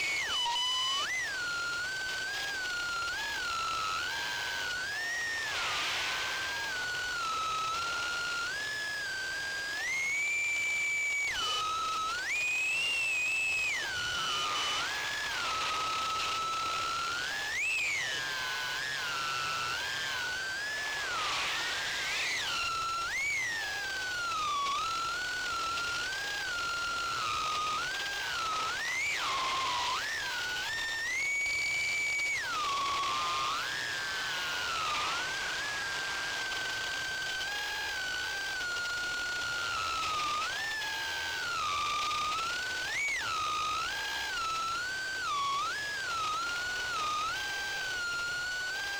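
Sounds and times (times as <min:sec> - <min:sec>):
quadcopter motors whining: 0:00.0 - 0:48.9.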